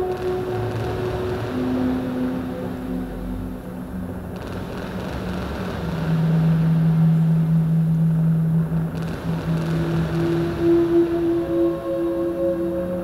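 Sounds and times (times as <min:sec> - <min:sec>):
electronic ambient drone music: 0:00.0 - 0:13.0.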